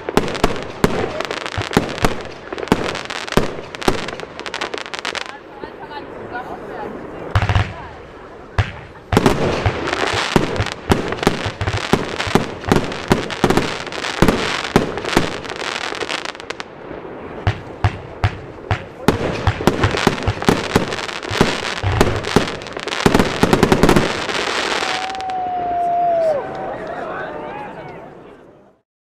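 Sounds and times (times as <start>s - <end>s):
fireworks launching and bursting: 0.0s - 26.4s
fireworks crackling: 0.0s - 26.7s.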